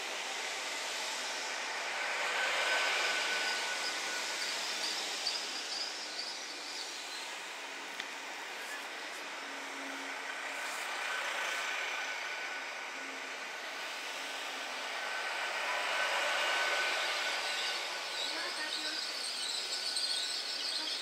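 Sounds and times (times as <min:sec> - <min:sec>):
faint steady whine: 0:00.0 - 0:21.0
train rumbling hum: 0:00.0 - 0:21.0.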